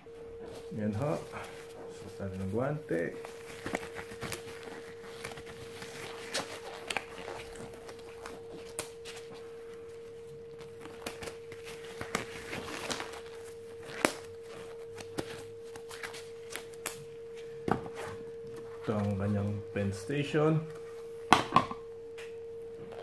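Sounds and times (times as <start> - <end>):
background hum: 0.0 - 23.0
glove material crinkling: 0.1 - 21.2.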